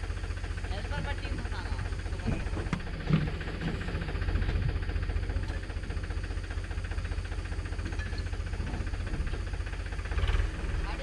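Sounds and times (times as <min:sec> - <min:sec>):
tractor diesel engine chugging: 0:00.0 - 0:11.0.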